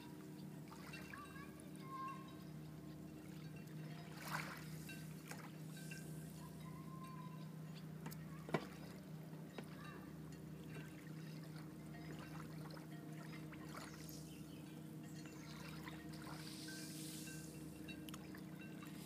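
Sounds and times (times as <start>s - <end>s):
seawater lapping around rocks: 0.0s - 7.0s, 8.2s - 19.0s
steady low hum: 0.0s - 19.0s.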